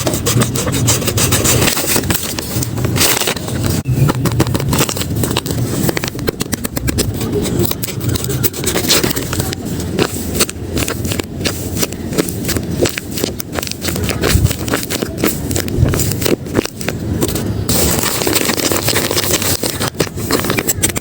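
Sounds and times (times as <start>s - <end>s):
paper rustling and crackling: 0.0s - 21.0s.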